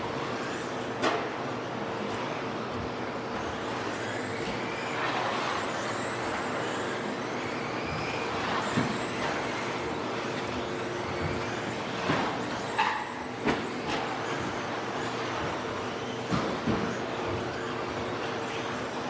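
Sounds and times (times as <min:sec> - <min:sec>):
electric toy trucks motors whining: 0:00.0 - 0:19.0.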